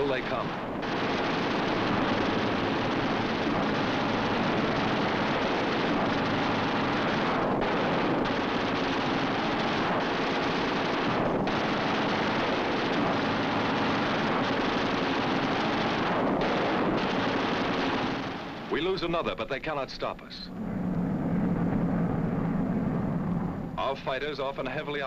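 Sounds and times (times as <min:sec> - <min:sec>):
aircraft engines droning: 0:00.0 - 0:25.0.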